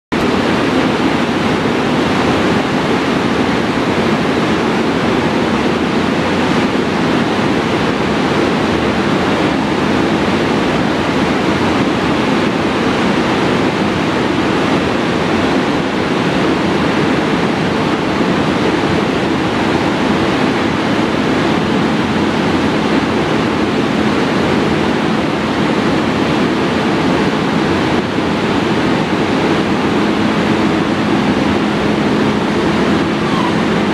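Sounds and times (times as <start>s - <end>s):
locomotive cooling blowers rushing: 0.1s - 33.9s
low steady hum: 0.1s - 33.9s.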